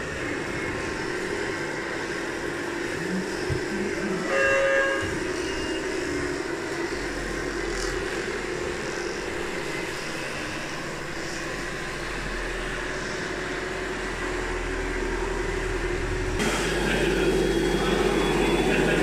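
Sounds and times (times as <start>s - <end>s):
electric motors whirring: 0.0s - 19.0s
hydraulic pumps humming: 0.0s - 19.0s.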